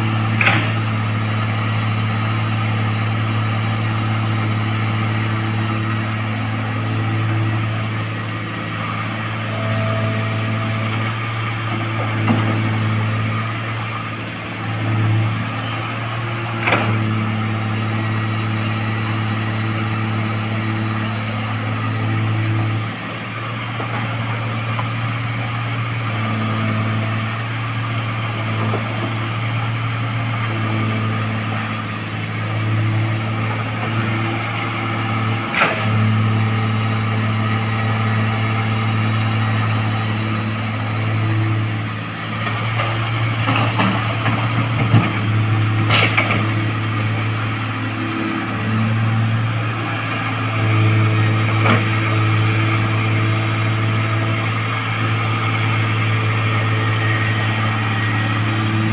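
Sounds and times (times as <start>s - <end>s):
heavy diesel engine droning: 0.0s - 58.9s.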